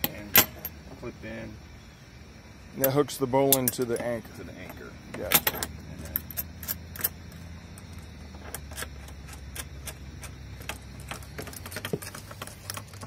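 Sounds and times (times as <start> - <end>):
carabiners clinking: 0.0 - 0.8, 2.8 - 13.0
low steady rumble: 0.0 - 13.0.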